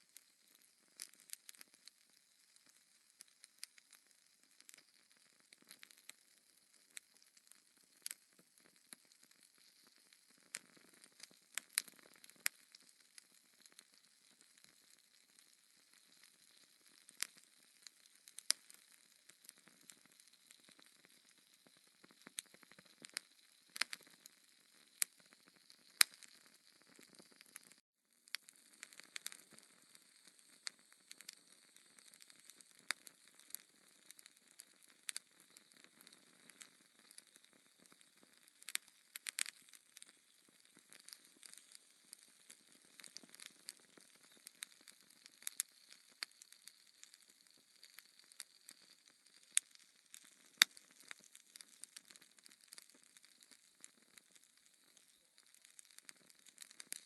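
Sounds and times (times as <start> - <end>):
logs crackling in fireplace: 0.0 - 57.0.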